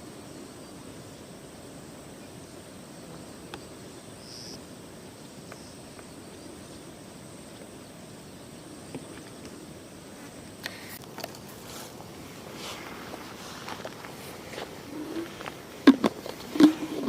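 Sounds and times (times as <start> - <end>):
high insect whine: 0.0 - 17.0.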